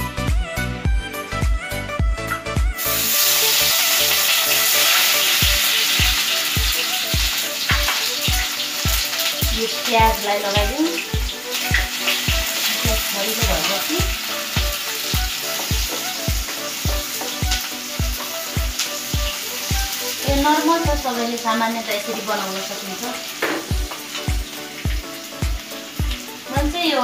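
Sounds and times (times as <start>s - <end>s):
background music with beat: 0.0s - 21.0s, 23.3s - 26.9s
onions sizzling in oil: 2.8s - 27.0s.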